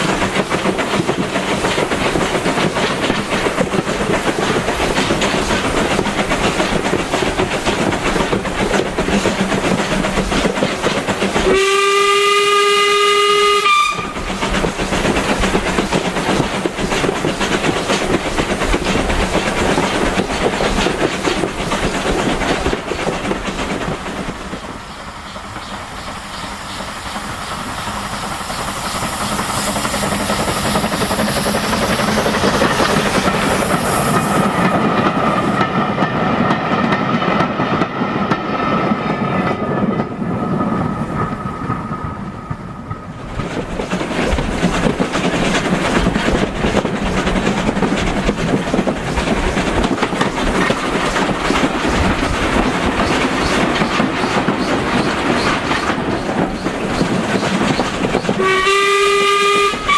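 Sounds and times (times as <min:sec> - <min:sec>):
train running hiss: 0:00.0 - 0:59.9
train wheels clicking over rail joints: 0:00.0 - 0:59.9.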